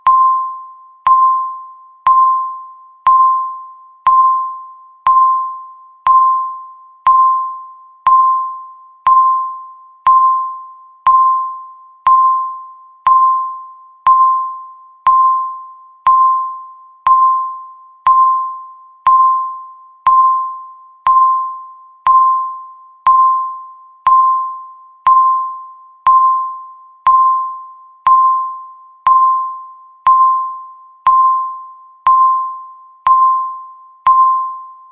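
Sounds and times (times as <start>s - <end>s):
bell-like timer beep: 0.0s - 34.9s.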